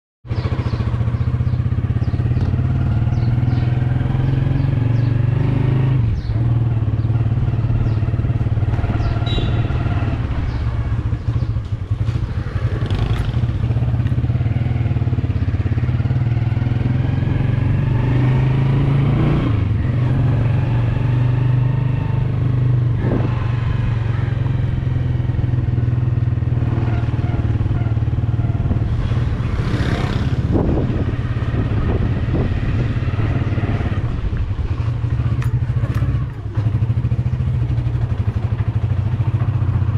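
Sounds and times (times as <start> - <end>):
motorcycle engine running: 0.3 - 39.9.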